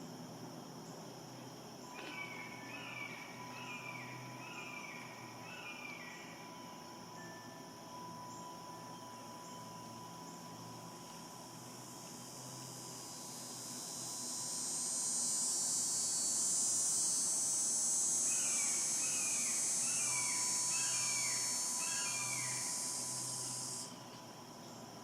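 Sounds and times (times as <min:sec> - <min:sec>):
insect buzzing: 0:00.0 - 0:25.0.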